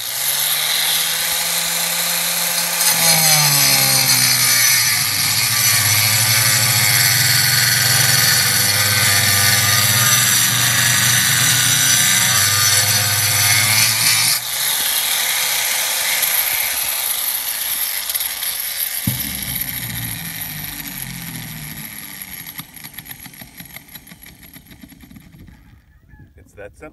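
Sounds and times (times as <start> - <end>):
angle grinder whine: 0.0 - 25.2
grinding rasp: 0.0 - 25.4.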